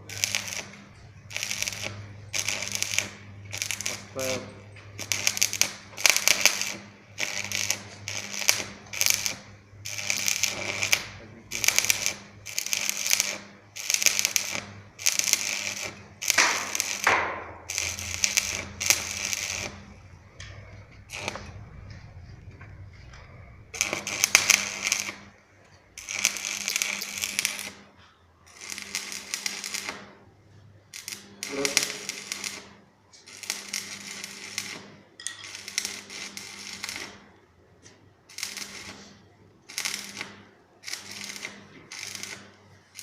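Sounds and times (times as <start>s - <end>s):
welding arc crackling: 0.0s - 30.3s, 30.9s - 43.0s
steady low hum: 0.0s - 37.7s.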